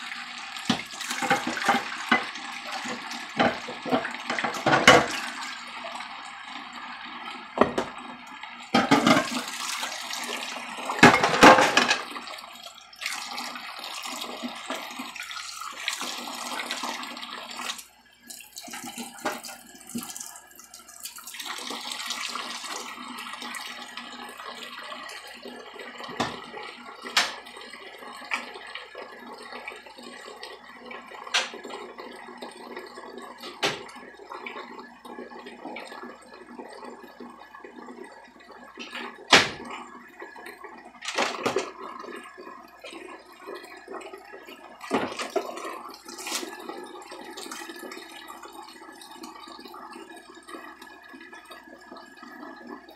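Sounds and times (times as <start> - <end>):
faucet running into metal sink: 0.0 - 52.9.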